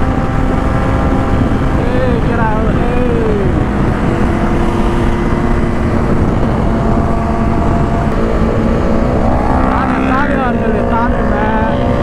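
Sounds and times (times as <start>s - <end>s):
motorcycle engine drone: 0.0s - 12.0s
wind rush on microphone: 0.0s - 12.0s.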